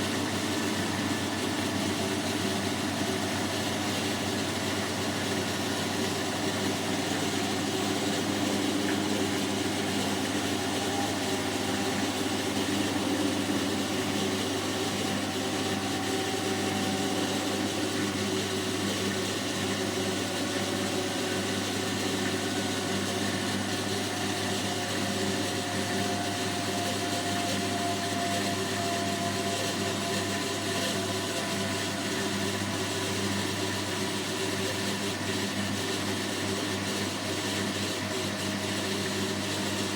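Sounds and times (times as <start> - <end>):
washing machine hum and whine: 0.0 - 39.9.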